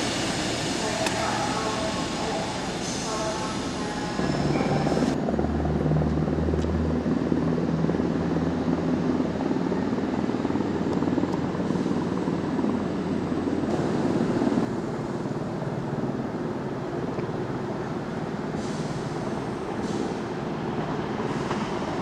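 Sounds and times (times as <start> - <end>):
train diesel engines rumbling: 0.0 - 22.0.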